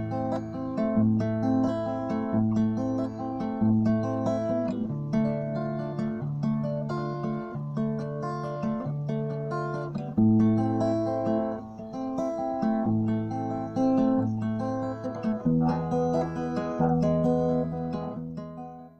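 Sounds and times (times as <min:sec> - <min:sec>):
acoustic guitar music: 0:00.0 - 0:18.9.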